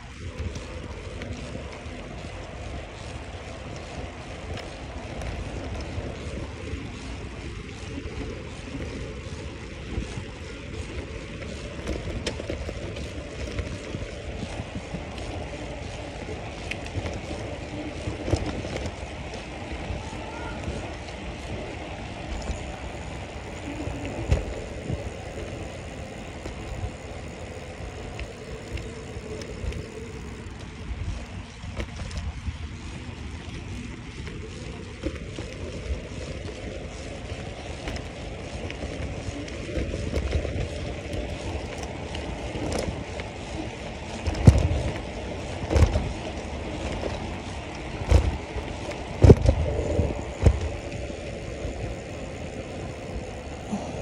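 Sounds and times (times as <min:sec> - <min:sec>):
bicycle tyre noise on pavement: 0:00.0 - 0:54.0.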